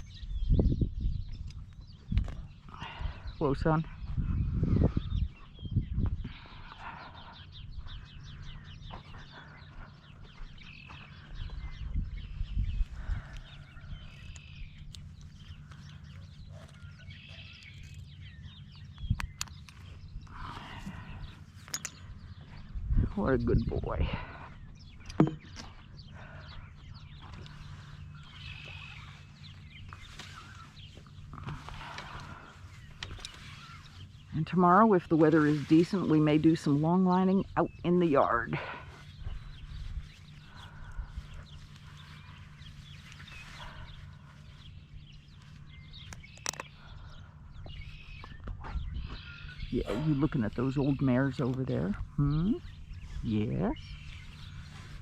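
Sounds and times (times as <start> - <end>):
small birds chirping: 0.0 - 55.0
wind rumble on microphone: 0.0 - 55.0.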